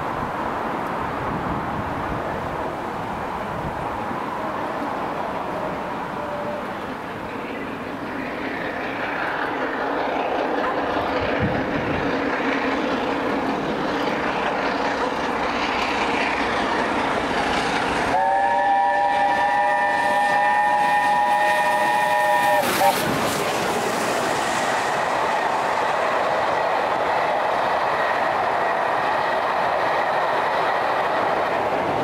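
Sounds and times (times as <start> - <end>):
steam locomotive running: 0.0 - 32.0.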